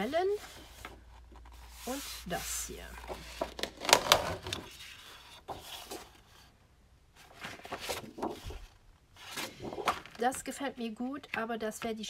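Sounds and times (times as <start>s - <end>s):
paper sheets rustling and flapping: 0.0s - 6.5s, 7.2s - 10.4s.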